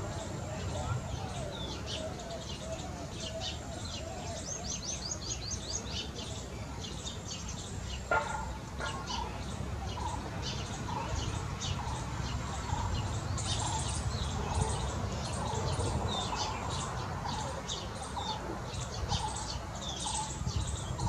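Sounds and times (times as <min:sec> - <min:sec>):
birds chirping: 0:00.0 - 0:21.0
low steady background noise: 0:00.0 - 0:21.0.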